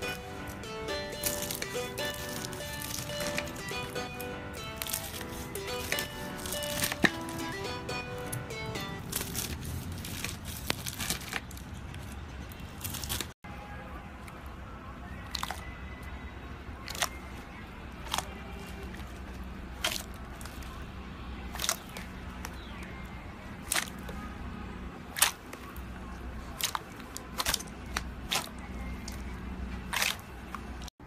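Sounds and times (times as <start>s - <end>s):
quiet background music: 0.0s - 31.0s.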